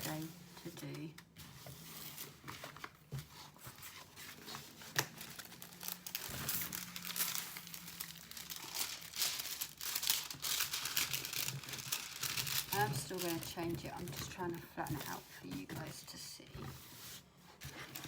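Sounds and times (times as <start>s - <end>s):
plastic crinkling and rustling: 0.0s - 18.0s.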